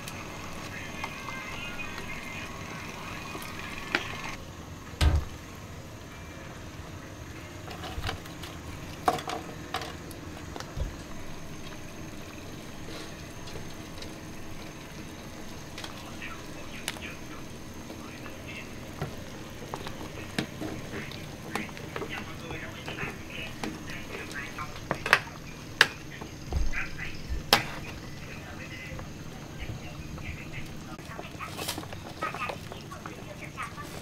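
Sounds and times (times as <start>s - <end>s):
broth bubbling on a burner: 0.0s - 34.0s.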